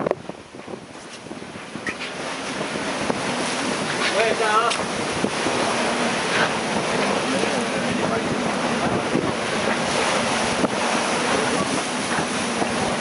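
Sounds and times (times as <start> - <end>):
water rushing around hull: 0.0 - 13.0
wind buffeting microphone: 0.0 - 13.0.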